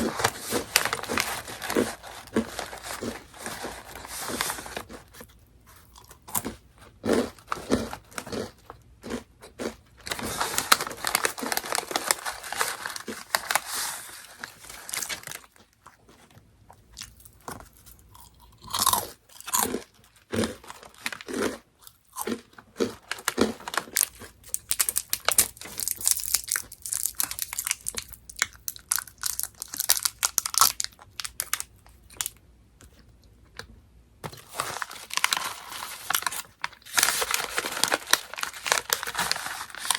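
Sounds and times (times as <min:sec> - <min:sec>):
crunching and chewing snack: 0:00.0 - 0:39.9.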